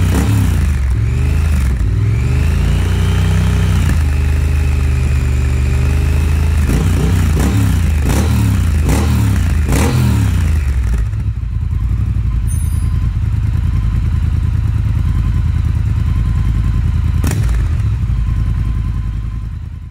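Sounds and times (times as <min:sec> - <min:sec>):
motorcycle engine idling: 0:00.0 - 0:19.9
motorcycle engine revving: 0:00.0 - 0:19.9.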